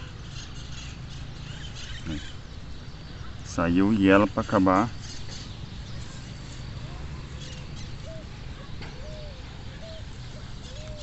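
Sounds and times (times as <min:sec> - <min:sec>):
faint short bird calls: 0:00.0 - 0:03.4, 0:04.4 - 0:11.0
higher bird chirps: 0:00.0 - 0:11.0.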